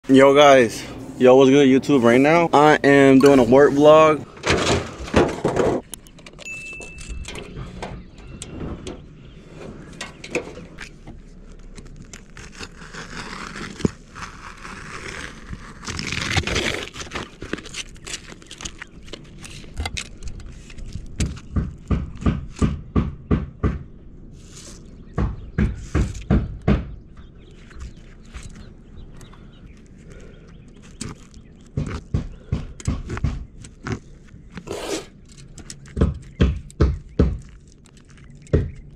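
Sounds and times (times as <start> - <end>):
shingles scraping and crinkling: 1.9 - 6.5, 7.1 - 22.8, 27.4 - 38.9.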